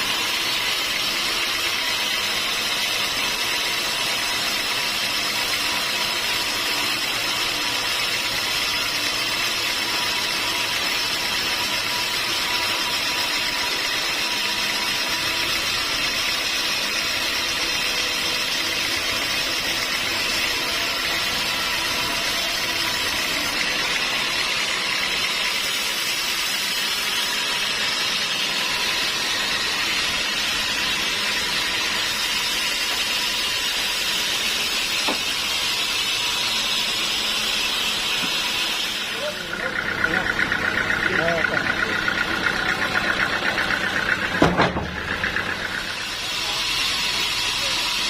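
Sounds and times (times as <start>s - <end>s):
sawmill machinery running: 0.0s - 48.0s.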